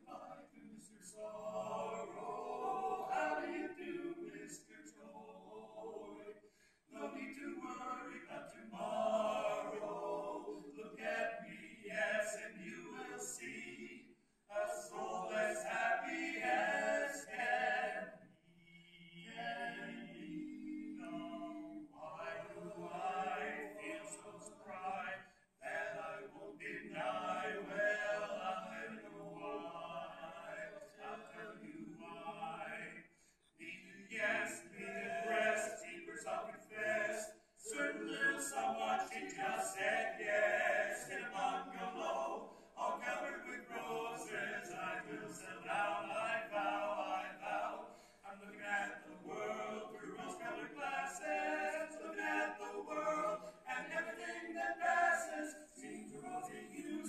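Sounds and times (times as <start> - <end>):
male vocal quartet singing: 0.0 - 57.0.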